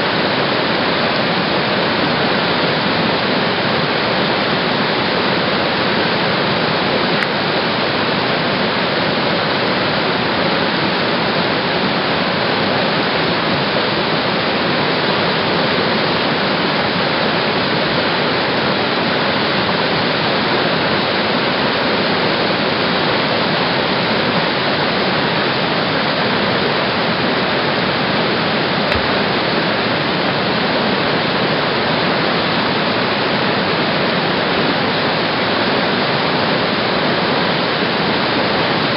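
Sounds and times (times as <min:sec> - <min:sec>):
whitewater rushing: 0:00.0 - 0:38.9.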